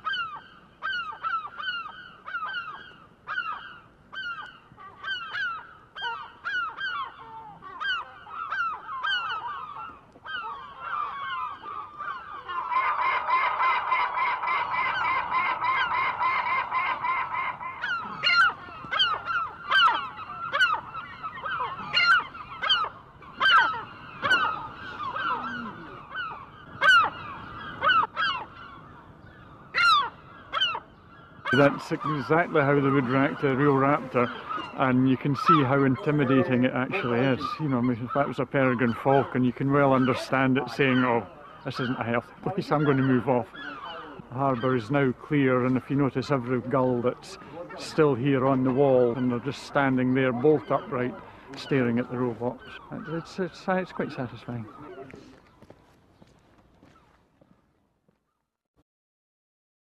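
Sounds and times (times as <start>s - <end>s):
gulls crying: 0.0s - 55.4s.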